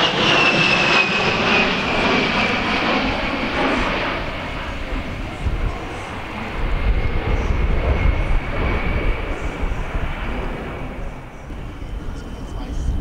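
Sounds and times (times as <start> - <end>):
jet aircraft passing: 0.0 - 13.0.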